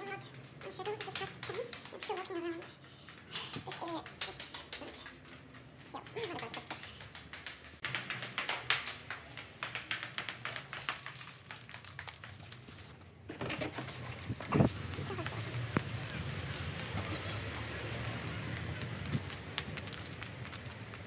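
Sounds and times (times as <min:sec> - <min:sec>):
footsteps going down stairs: 0:00.0 - 0:21.0.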